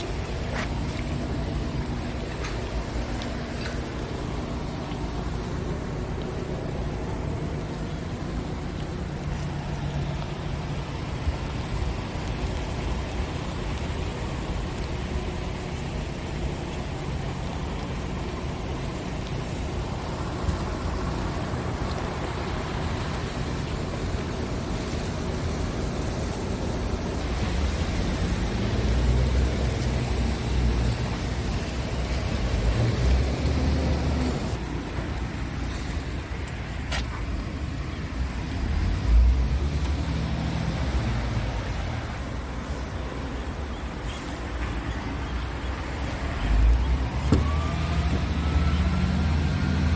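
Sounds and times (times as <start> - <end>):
diesel truck engine running: 0.0 - 36.8, 37.6 - 49.9.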